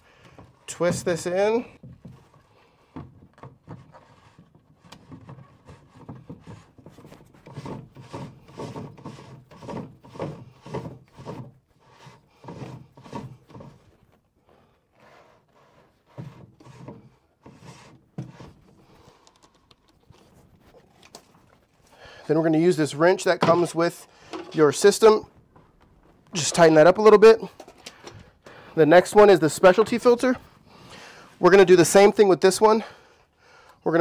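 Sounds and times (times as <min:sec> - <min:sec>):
plastic threads rubbing and scraping: 0:00.2 - 0:27.8.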